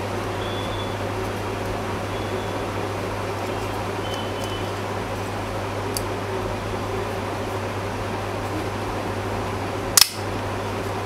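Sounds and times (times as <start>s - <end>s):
fan noise: 0.0s - 11.0s
low electrical hum: 0.0s - 11.0s.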